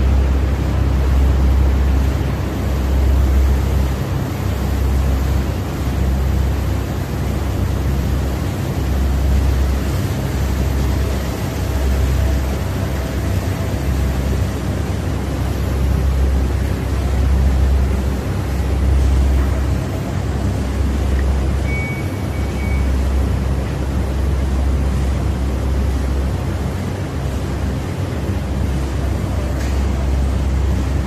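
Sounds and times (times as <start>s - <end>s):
refrigeration fans droning: 0.0s - 31.0s.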